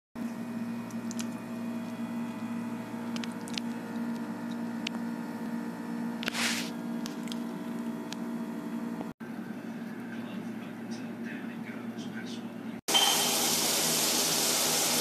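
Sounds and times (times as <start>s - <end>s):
low electrical hum: 0.2s - 12.8s.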